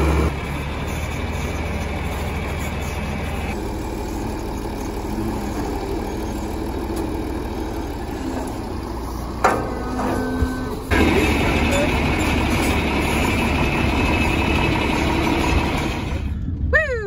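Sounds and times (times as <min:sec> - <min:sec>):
tractor diesel engine running: 0:00.0 - 0:16.7.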